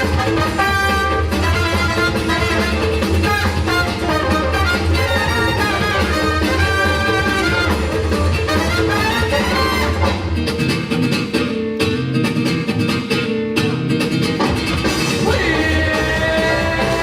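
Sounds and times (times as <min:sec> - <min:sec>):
dance music with guitar and singing: 0:00.0 - 0:17.0.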